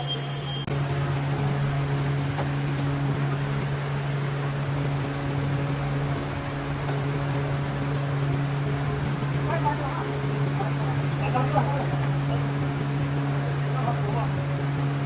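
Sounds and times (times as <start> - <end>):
machine humming and rushing: 0.0 - 15.0.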